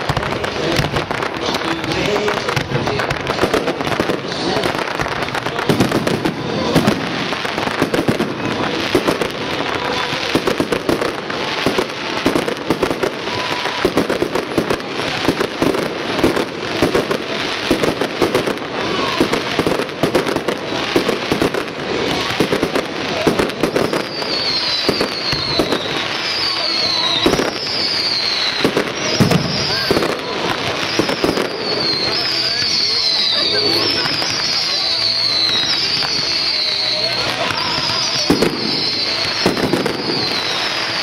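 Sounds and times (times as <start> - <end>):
firework whistles: 0.0 - 41.0
fireworks bangs and crackles: 0.0 - 41.0.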